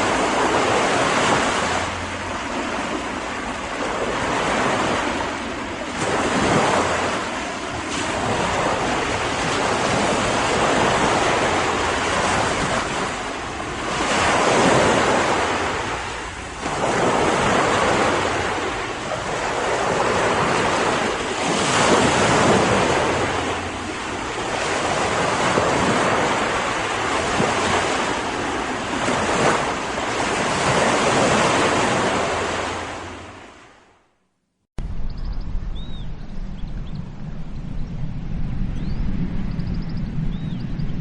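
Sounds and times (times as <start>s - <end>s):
waves breaking on shore: 0.0s - 34.1s.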